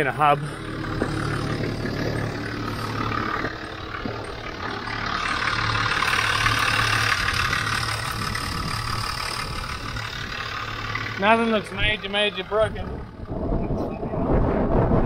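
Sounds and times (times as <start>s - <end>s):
truck engine idling: 0.0s - 14.3s.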